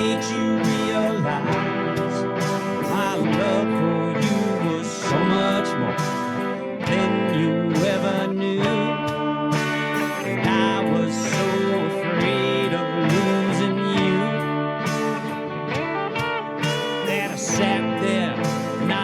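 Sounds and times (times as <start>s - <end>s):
country song with plucked guitar: 0.0s - 19.0s.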